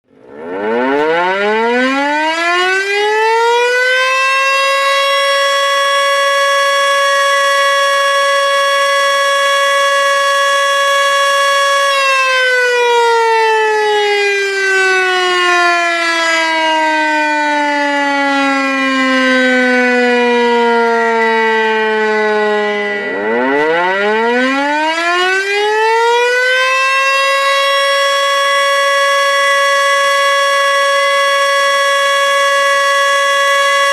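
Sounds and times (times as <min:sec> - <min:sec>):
warning siren wailing: 0:00.0 - 0:33.9.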